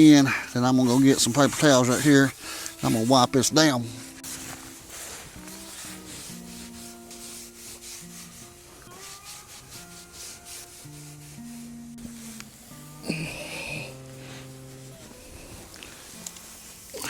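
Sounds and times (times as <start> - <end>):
paper towel scratching on griddle: 0.0 - 17.0.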